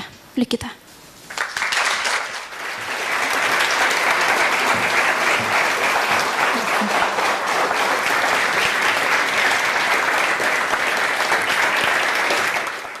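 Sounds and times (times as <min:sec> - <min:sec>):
audience applauding: 0:01.3 - 0:13.0.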